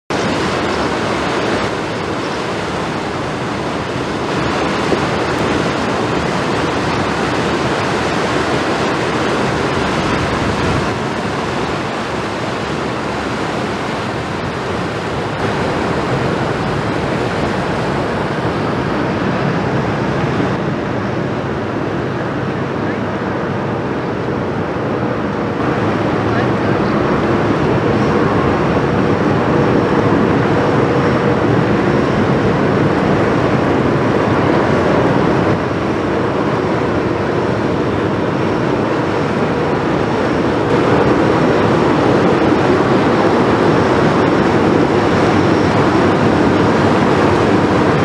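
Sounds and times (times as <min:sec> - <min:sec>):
wind: 0:00.0 - 0:48.0
river water rushing: 0:00.1 - 0:48.0.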